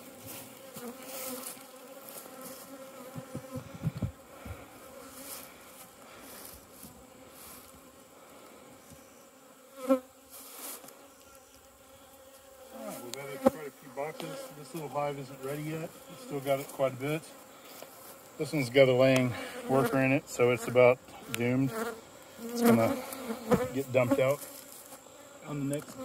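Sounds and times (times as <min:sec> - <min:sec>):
bees buzzing: 0:00.0 - 0:26.0
bee passing close by: 0:00.1 - 0:16.6, 0:21.6 - 0:26.0.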